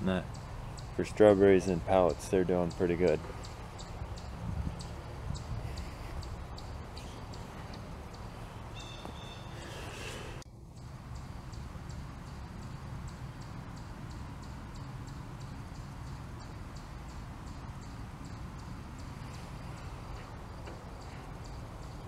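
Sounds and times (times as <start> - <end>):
faint high-pitched ticking: 0.0 - 9.6, 10.5 - 22.0
steady low rumble: 0.0 - 22.0.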